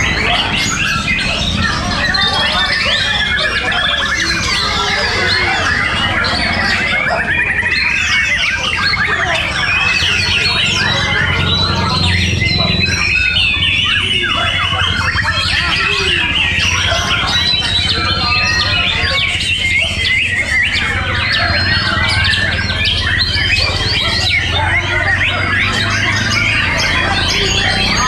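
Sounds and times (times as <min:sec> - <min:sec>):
birds singing: 0:00.0 - 0:28.0.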